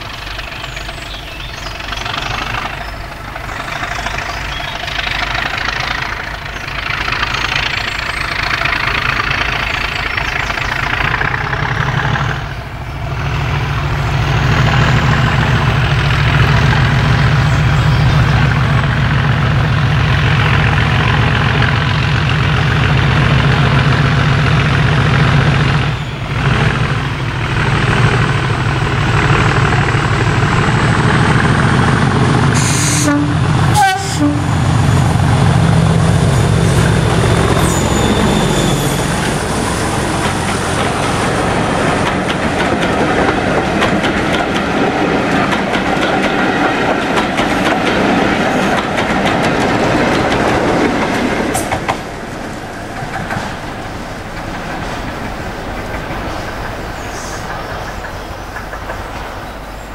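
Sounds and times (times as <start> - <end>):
diesel locomotive engine droning: 0.0 - 59.9.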